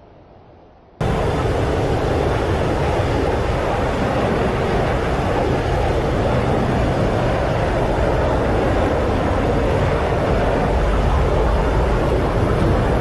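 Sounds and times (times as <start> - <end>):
loud steady rumbling: 1.0 - 13.0.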